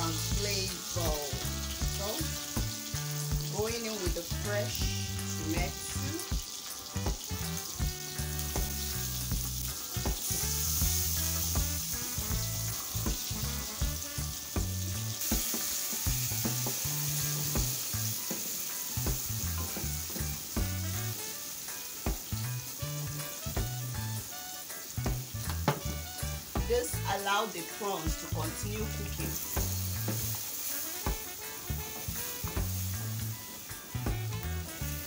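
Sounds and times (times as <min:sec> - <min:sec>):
prawns sizzling in hot oil: 0:00.0 - 0:35.0.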